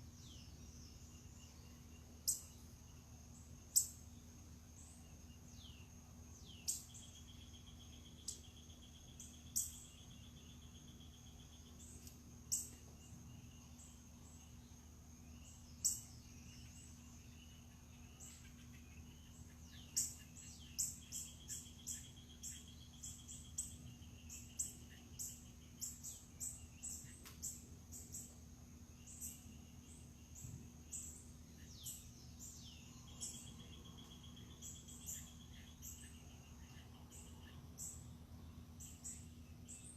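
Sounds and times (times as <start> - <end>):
birds chirping: 0.0 - 39.9
faint low hum: 0.0 - 39.9.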